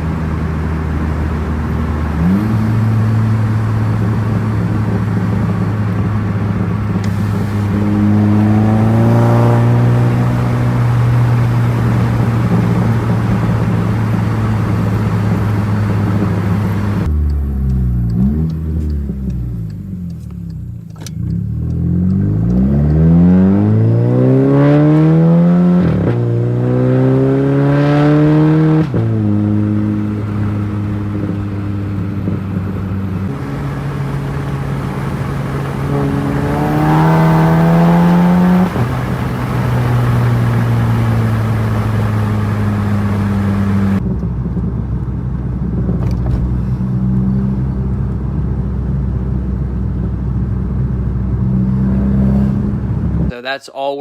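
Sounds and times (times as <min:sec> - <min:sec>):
turbocharged car engine accelerating: 0:00.0 - 0:53.4.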